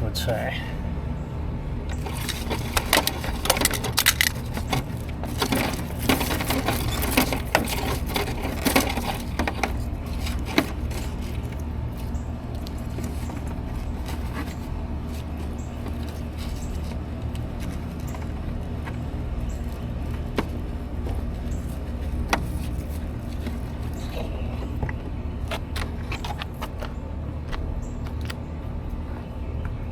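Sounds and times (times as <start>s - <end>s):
steady low hum: 0.0s - 29.9s
wires and plastic parts rustling: 1.9s - 29.2s.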